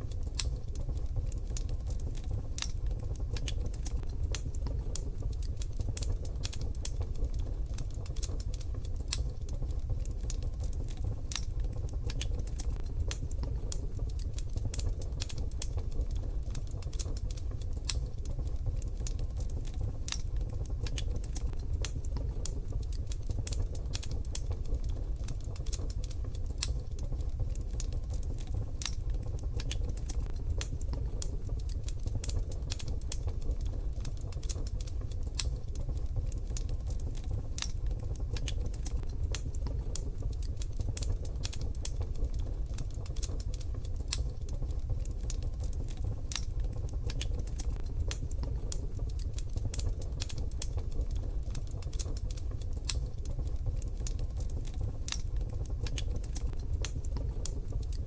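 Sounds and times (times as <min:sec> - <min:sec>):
wood fire crackling in a stove: 0:00.0 - 0:58.0.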